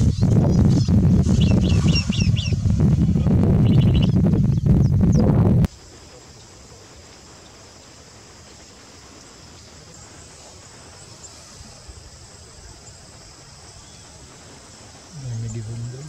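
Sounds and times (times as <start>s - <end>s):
insects trilling: 0.0s - 5.0s, 5.7s - 16.0s.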